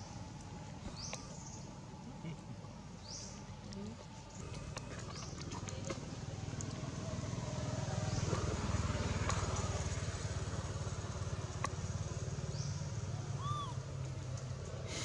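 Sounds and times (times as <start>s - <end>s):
small engine rumbling: 0.0s - 15.0s.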